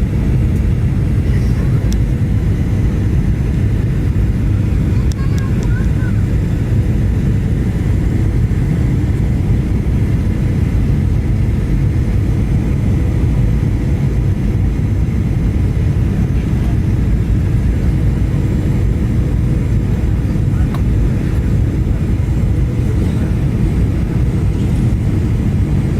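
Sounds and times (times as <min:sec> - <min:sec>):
airflow past fuselage: 0:00.0 - 0:25.9
airplane cabin engine rumble: 0:00.0 - 0:25.9.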